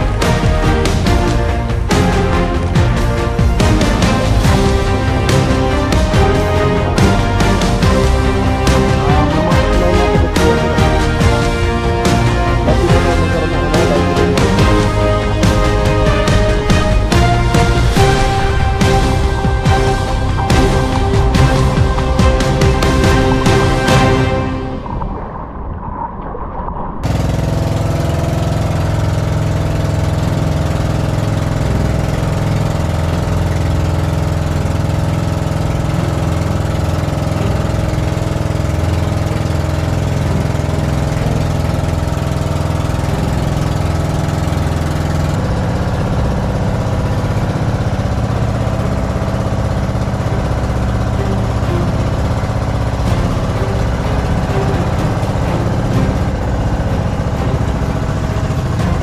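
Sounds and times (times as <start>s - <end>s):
small boat engine running: 0.0s - 25.6s, 27.0s - 59.0s
music: 0.0s - 26.0s, 27.0s - 59.0s.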